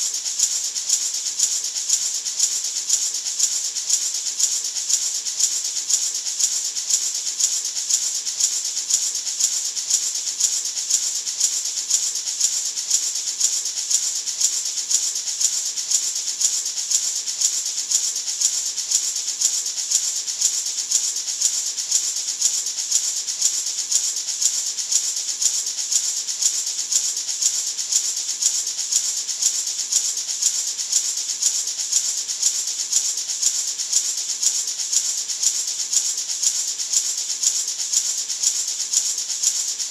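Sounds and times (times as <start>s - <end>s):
maraca rattling: 0.0s - 39.9s.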